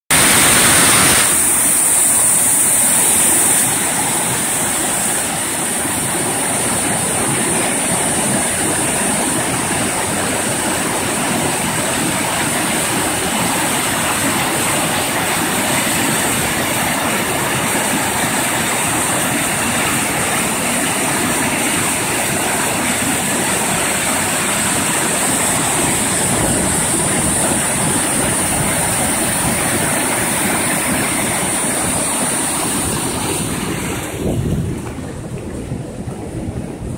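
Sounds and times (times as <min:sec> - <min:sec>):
waterfall rushing: 0:00.1 - 0:36.9.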